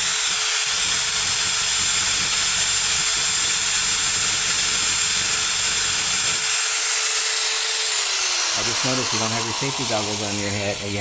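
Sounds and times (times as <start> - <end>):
electric drill whining: 0.0 - 11.0.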